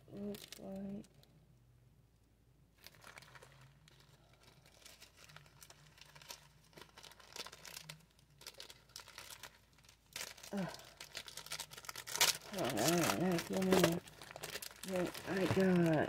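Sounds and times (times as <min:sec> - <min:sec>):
packaging crinkling: 0:02.8 - 0:16.0.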